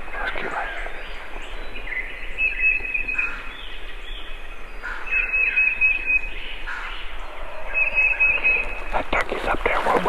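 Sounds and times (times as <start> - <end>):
songbird trill: 0.0 - 9.1.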